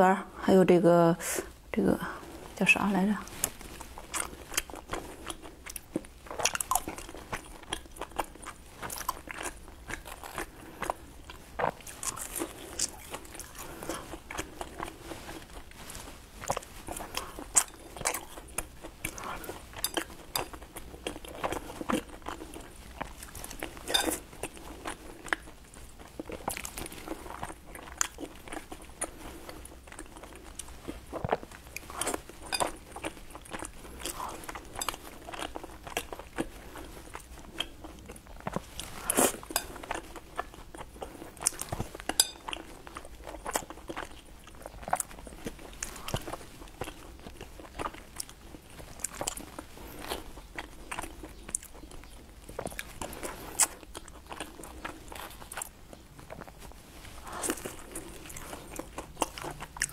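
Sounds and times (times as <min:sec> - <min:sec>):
person chewing and smacking: 0:03.3 - 0:59.9.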